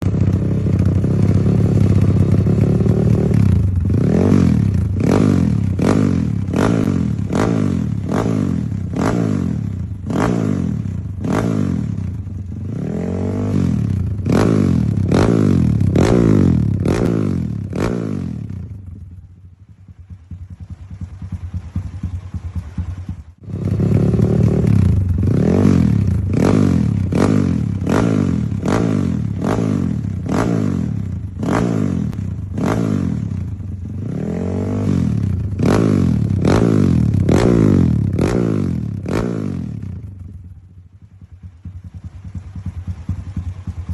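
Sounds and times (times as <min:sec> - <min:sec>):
dirt bike engine revving: 0:00.0 - 0:18.7, 0:20.8 - 0:40.0.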